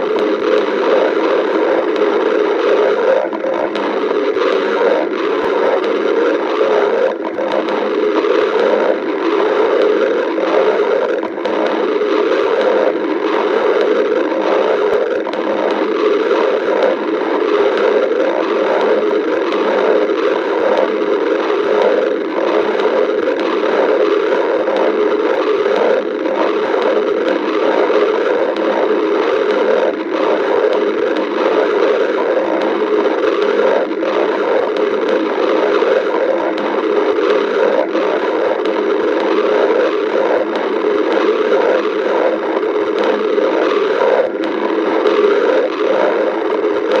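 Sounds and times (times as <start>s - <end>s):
stomach growling: 0.0s - 47.0s.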